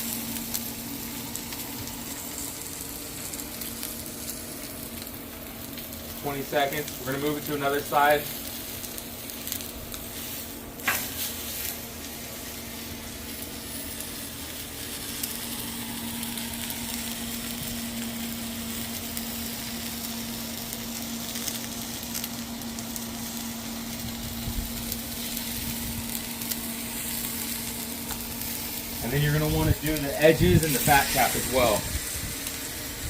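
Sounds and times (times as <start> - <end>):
steak sizzling on a griddle: 0.0 - 33.0.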